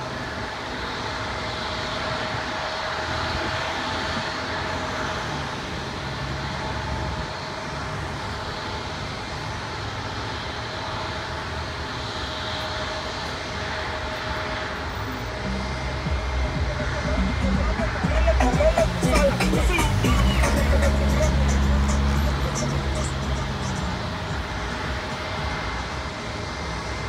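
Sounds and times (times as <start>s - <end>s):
highway traffic passing: 0.0s - 27.0s
jet engines humming: 0.0s - 27.0s.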